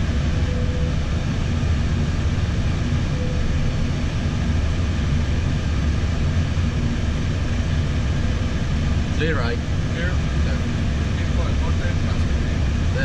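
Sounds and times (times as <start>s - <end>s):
faint steady hum: 0.0s - 13.0s
jet engines rumbling: 0.0s - 13.0s.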